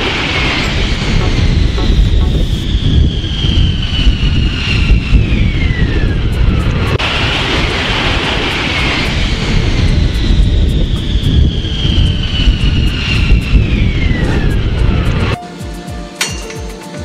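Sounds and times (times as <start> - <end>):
jet engine rumble with high whine: 0.0 - 15.4.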